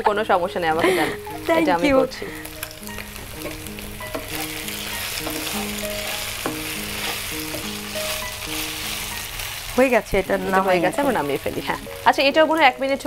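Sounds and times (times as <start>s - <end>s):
soft background melody: 0.0s - 13.0s
oil sizzling in a pan: 0.1s - 13.0s
wooden spatula stirring: 1.2s - 13.0s.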